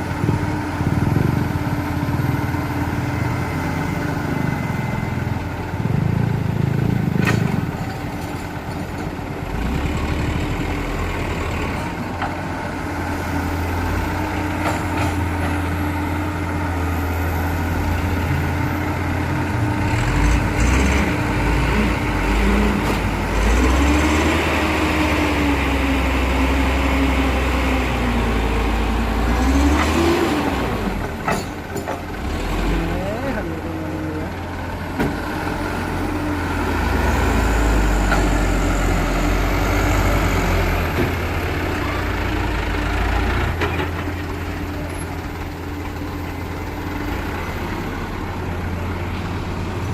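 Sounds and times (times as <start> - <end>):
diesel machinery engine running: 0.0 - 49.9.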